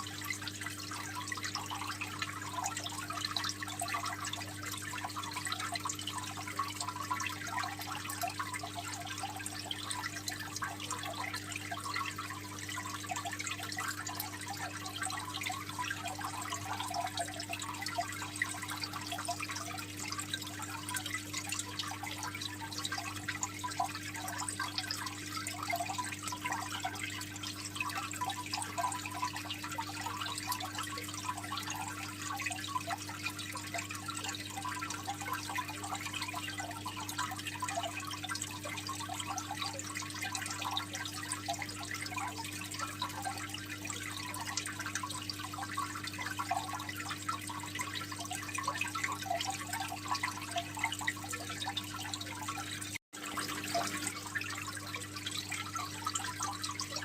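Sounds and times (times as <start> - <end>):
water trickling into tank: 0.0 - 57.0.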